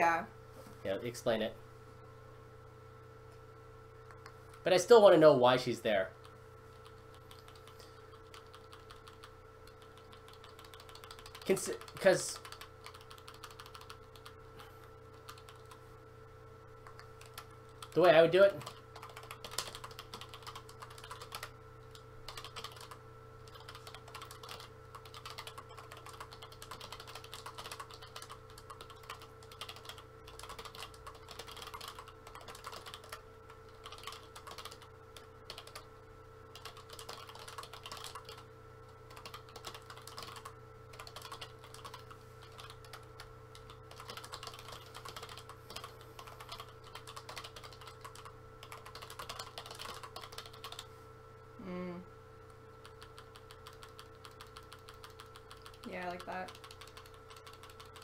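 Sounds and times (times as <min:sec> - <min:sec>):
steady hum: 0:00.0 - 0:58.0
computer keyboard typing: 0:06.2 - 0:15.8, 0:16.8 - 0:35.9, 0:36.5 - 0:38.5, 0:39.1 - 0:50.9, 0:52.7 - 0:58.0.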